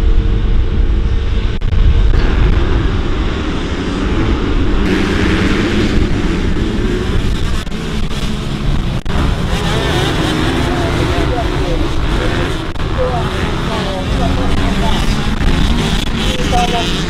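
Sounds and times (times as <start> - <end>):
motocross engines running hard: 0.0 - 17.0.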